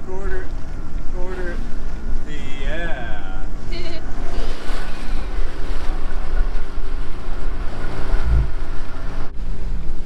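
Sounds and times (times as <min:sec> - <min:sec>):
boat engine running: 0:00.0 - 0:10.0
wind rumbling on microphone: 0:00.0 - 0:10.0.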